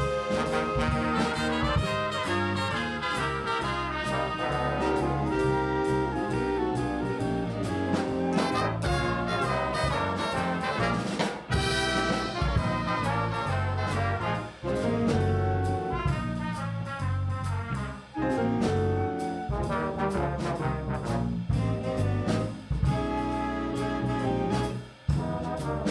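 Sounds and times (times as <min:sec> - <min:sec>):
jazz band playing: 0:00.0 - 0:25.9
trumpets and trombones: 0:00.0 - 0:25.9.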